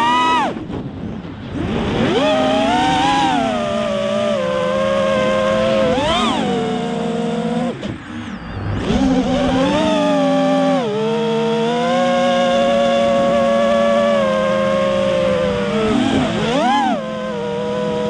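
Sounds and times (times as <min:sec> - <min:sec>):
quadcopter motors whining: 0:00.0 - 0:00.7, 0:01.5 - 0:18.0.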